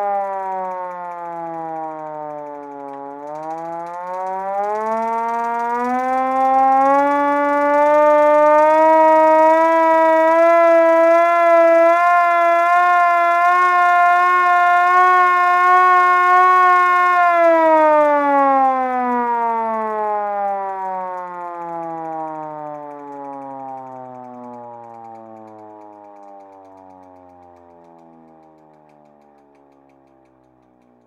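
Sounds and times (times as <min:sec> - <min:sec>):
mechanical siren wailing: 0:00.0 - 0:31.0.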